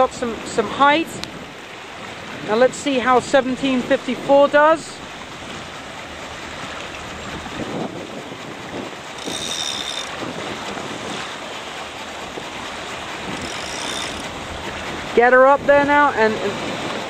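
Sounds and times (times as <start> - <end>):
water splashing and lapping: 0.0 - 17.0
wind on microphone: 0.2 - 11.5, 12.2 - 17.0.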